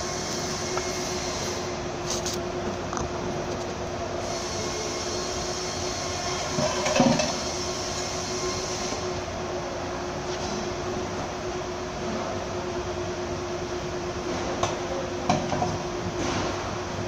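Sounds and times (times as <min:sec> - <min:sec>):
workshop machine hum: 0:00.0 - 0:17.0.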